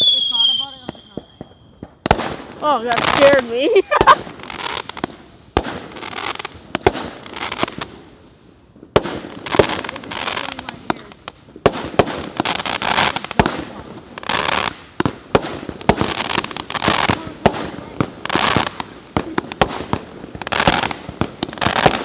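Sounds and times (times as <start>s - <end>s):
firecracker crackling hiss: 0.0s - 22.0s
fireworks bangs: 0.0s - 22.0s.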